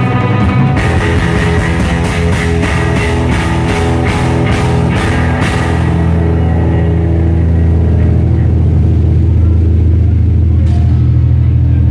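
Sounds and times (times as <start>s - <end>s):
bass guitar: 0.0s - 11.9s
drum kit with cymbals: 0.0s - 11.9s
electric guitar: 0.0s - 11.9s.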